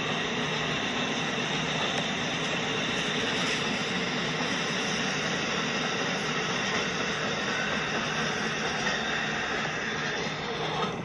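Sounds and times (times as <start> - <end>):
toy trains whirring on track: 0.0 - 11.0.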